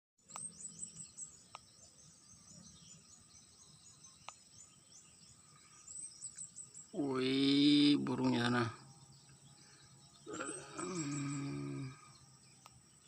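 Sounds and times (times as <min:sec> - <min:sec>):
distant birds chirping: 0:00.2 - 0:13.0.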